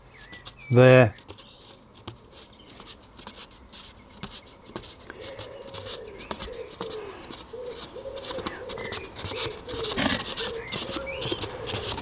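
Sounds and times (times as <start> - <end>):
handling thin balsa wood sheet: 0.0 - 12.0.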